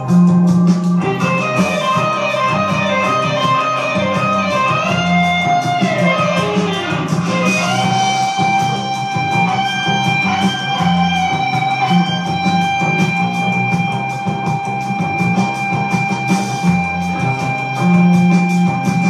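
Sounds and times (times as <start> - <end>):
drumsticks beating a rhythm: 0.0 - 19.0
electric guitar jamming: 0.0 - 19.0.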